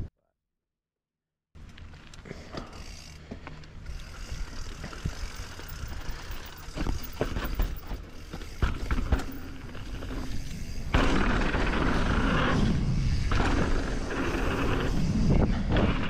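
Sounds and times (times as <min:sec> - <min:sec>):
bike rattling and knocks: 0:01.6 - 0:12.5, 0:13.1 - 0:16.0
bike tyre and drivetrain rumble: 0:01.6 - 0:16.0.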